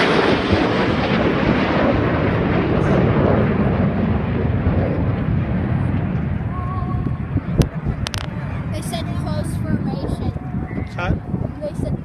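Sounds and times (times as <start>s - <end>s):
deep jet rumble: 0.0s - 12.0s
fighter jets roaring overhead: 0.0s - 12.0s.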